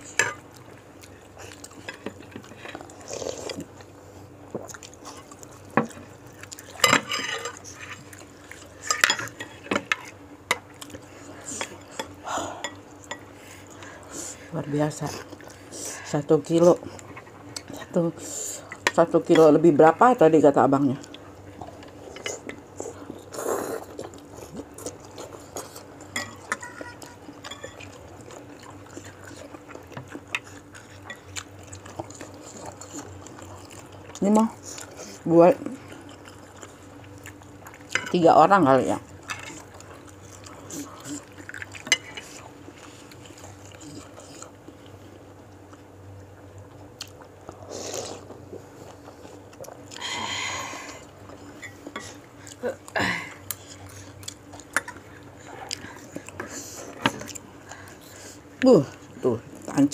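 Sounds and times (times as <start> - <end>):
chewing and wet mouth noises: 0.0 - 19.5, 20.9 - 38.1, 39.0 - 59.8.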